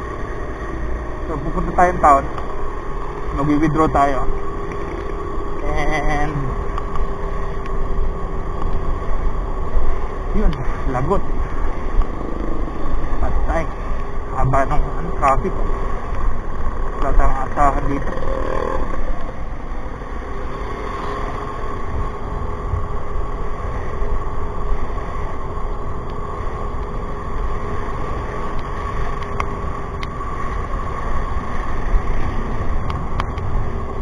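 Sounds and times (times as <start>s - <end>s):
faint steady hum: 0.0s - 34.0s
motor scooter engine running: 0.0s - 34.0s
road and wind noise: 0.0s - 34.0s.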